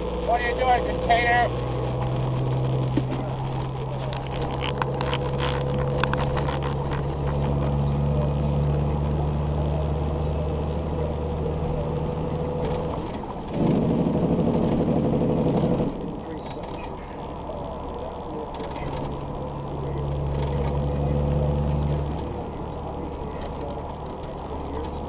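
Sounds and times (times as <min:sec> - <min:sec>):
truck engine and road drone: 0:00.0 - 0:25.0.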